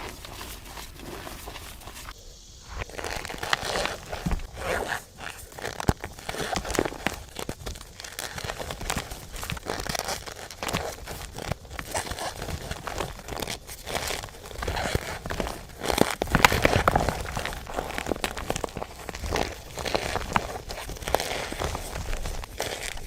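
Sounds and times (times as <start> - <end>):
chalk crunching and snapping: 0.0 - 23.0.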